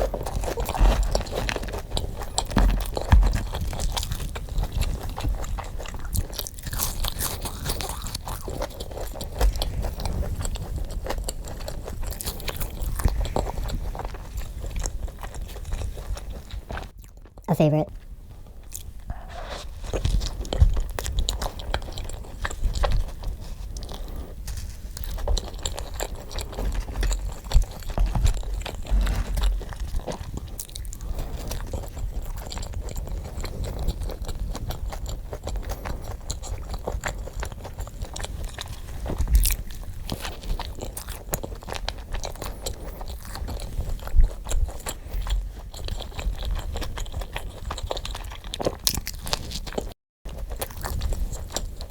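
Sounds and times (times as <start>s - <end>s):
crunching and chewing crisp food: 0.0s - 51.9s.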